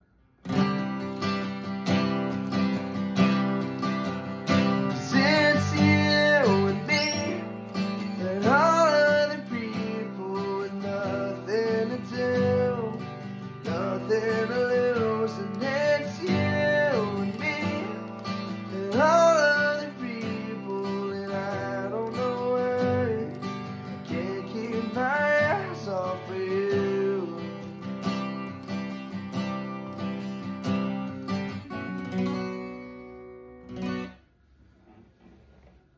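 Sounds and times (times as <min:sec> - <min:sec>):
acoustic guitar strumming: 0:00.4 - 0:34.3.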